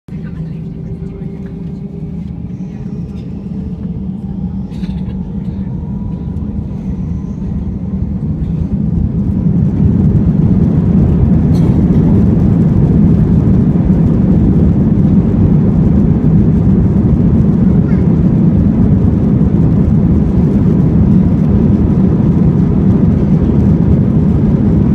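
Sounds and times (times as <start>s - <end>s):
jet engines spooling up: 0.1s - 24.9s.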